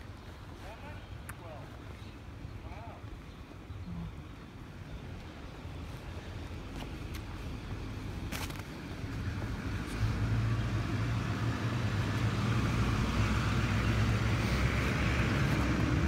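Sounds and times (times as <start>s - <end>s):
engine low drone: 0.0s - 16.0s.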